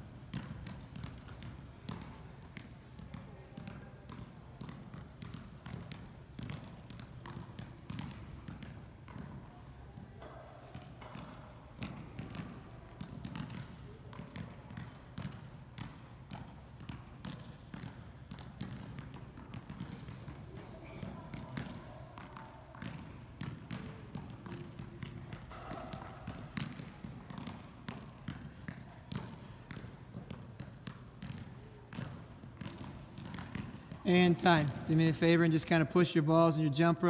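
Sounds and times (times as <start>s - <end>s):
balls thumping: 0.1s - 37.0s.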